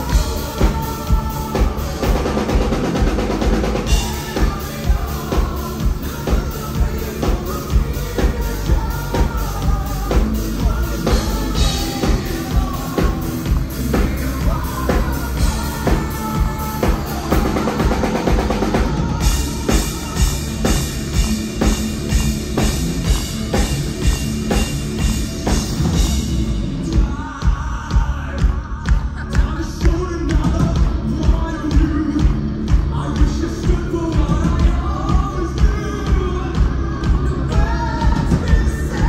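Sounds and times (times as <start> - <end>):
metal band playing live: 0.0 - 28.6, 29.2 - 39.0.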